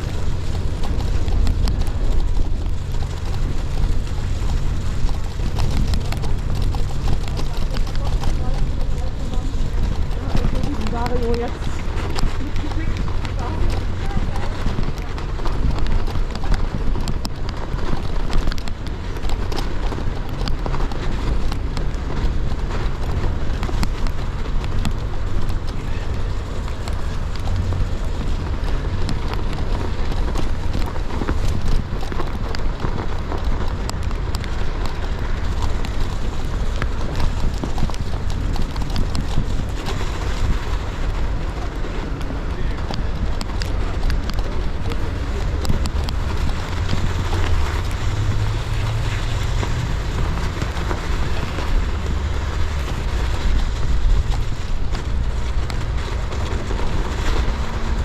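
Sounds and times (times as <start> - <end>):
bike tyres crunching over snow: 0.0 - 58.0
wind on microphone: 0.0 - 58.0.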